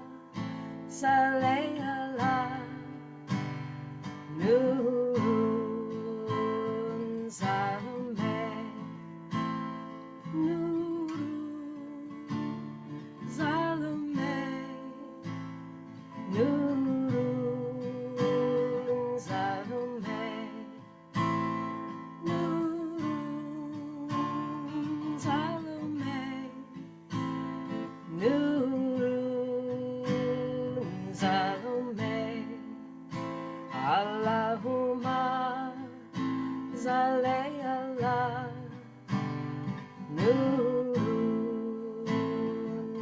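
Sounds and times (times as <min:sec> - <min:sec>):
strummed acoustic guitar: 0:00.0 - 0:43.0.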